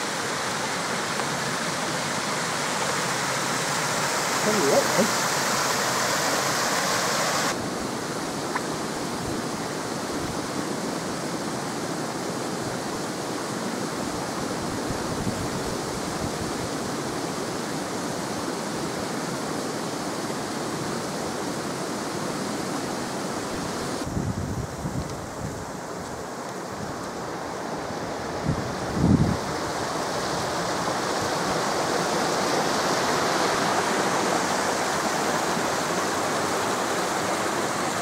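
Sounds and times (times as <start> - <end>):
stream and small waterfalls rushing: 0.0 - 38.0.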